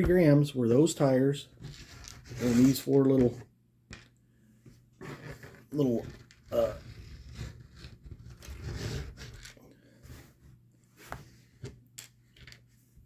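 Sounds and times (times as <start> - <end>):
rustling and scraping of small parts: 0.0 - 13.0.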